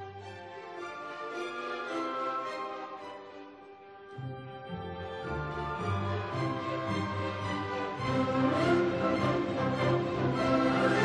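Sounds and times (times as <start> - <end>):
background music of held notes: 0.0 - 11.0.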